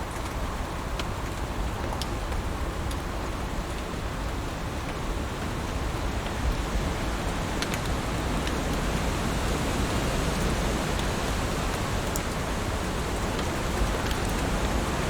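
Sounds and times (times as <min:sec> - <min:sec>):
heavy rain falling: 0:02.7 - 0:15.0.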